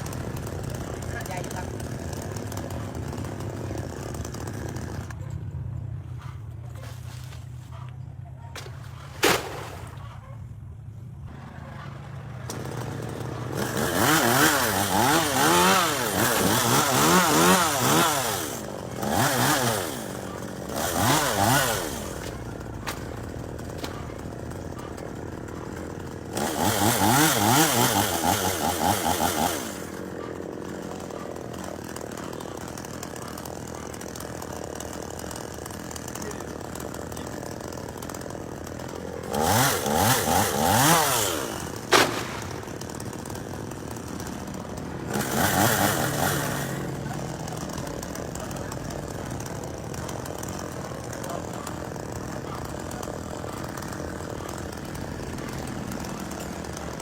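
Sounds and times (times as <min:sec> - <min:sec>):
chainsaw idling and revving: 0:00.0 - 0:06.3, 0:10.6 - 0:57.0.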